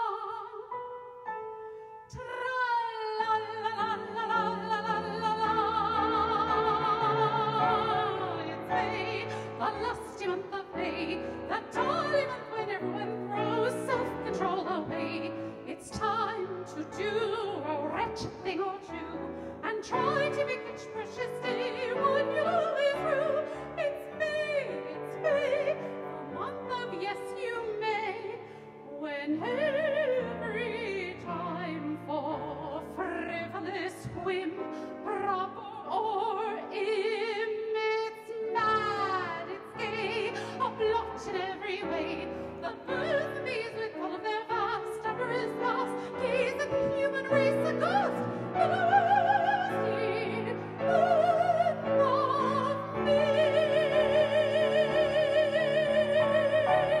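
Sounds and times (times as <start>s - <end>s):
operatic soprano singing: 0.0s - 0.8s, 2.1s - 57.0s
grand piano: 0.0s - 57.0s.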